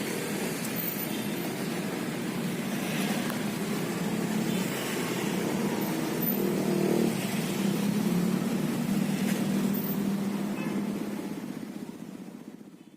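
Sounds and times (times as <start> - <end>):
motorcycles: 0.0 - 12.9
road noise hum: 0.0 - 12.9
vehicle engines running: 0.0 - 12.9.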